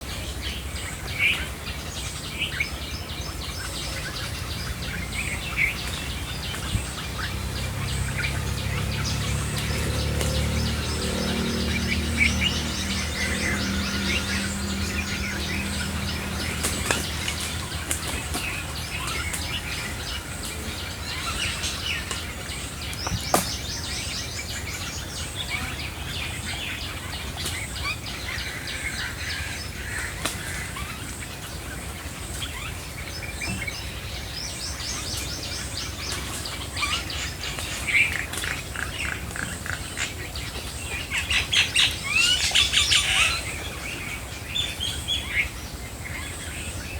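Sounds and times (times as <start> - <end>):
birds chirping and singing: 0.0 - 46.9.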